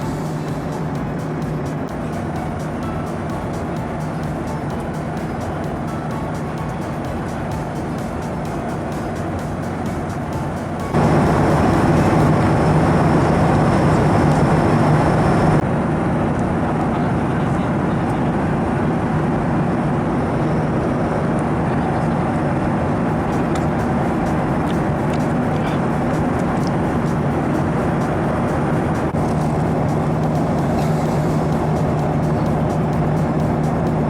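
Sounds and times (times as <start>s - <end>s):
jet engine and airflow noise: 0.0s - 34.0s
low hum: 0.0s - 34.0s.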